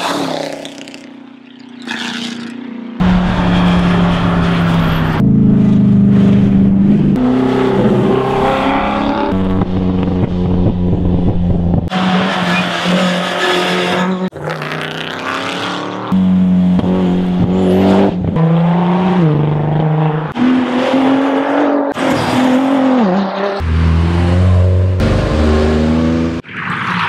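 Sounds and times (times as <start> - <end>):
rally car engines revving: 1.7 - 27.0.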